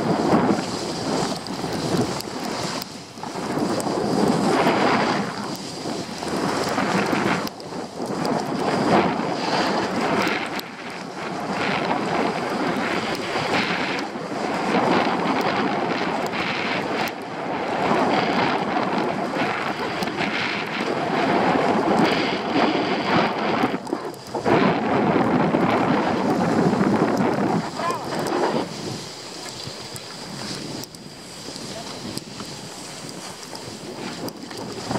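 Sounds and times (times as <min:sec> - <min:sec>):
skis scraping over snow: 0:00.0 - 0:34.9
wind rushing over microphone: 0:00.0 - 0:34.9.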